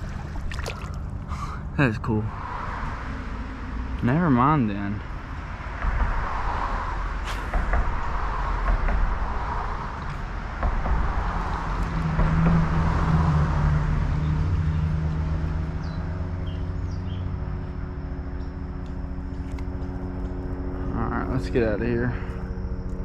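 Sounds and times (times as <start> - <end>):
outdoor rushing noise: 0.0 - 23.0
vehicle engine drone: 0.0 - 23.0
wind rumble on microphone: 0.0 - 23.0.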